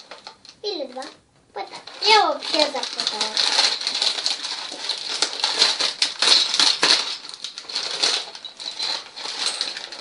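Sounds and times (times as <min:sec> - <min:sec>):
plastic bag crinkling: 0:00.0 - 0:10.0
plastic pieces clicking together: 0:01.9 - 0:10.0.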